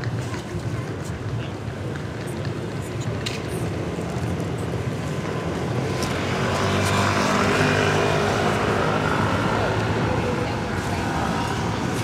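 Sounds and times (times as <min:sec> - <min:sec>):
urban background noise: 0:00.0 - 0:12.0.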